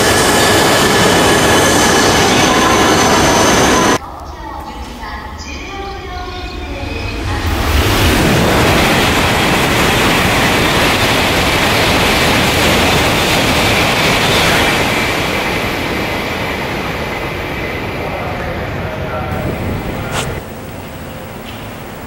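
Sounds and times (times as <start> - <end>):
high-speed train passing: 0.0 - 4.0, 4.7 - 22.0.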